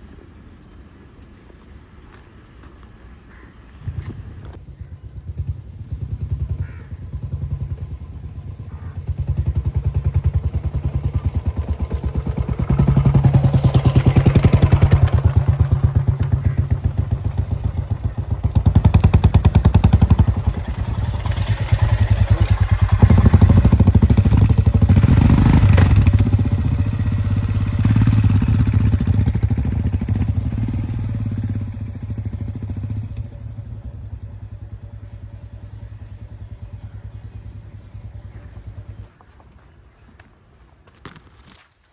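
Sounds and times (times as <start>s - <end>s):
motorcycle engine running: 3.9s - 39.7s.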